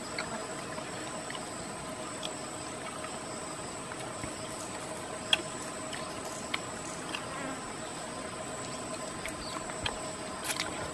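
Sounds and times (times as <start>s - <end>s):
insects droning with high whine: 0.0s - 10.9s.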